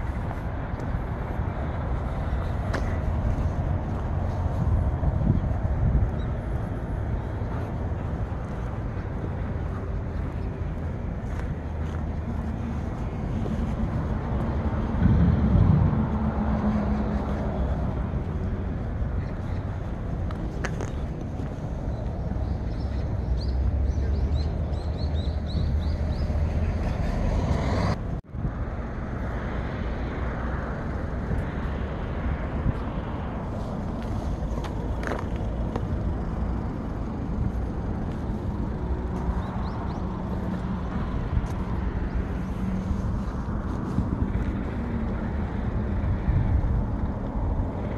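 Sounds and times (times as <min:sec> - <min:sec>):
road traffic rumble: 0:00.0 - 0:47.9
vehicle engine hum: 0:00.0 - 0:47.9.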